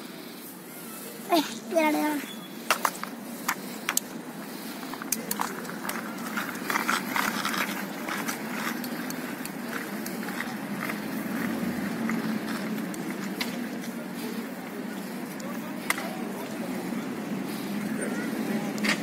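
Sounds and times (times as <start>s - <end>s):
distant traffic rumble: 0.0s - 19.0s
scooter rattling over asphalt: 1.7s - 19.0s.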